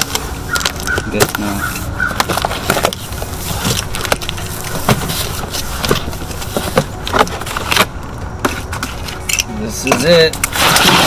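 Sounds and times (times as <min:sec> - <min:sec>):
steady low rumble: 0:00.0 - 0:10.6
cardboard crackling and scraping: 0:00.0 - 0:11.0.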